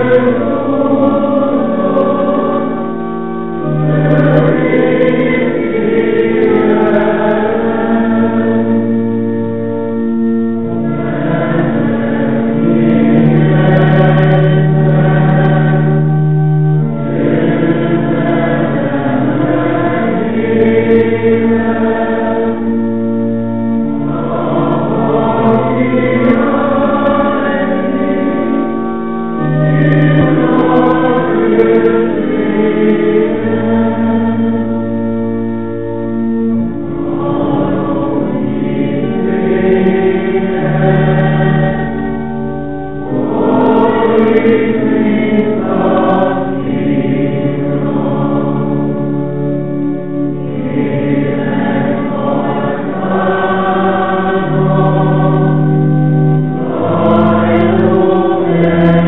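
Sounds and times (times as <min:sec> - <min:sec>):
many voices singing a hymn: 0:00.0 - 0:59.0.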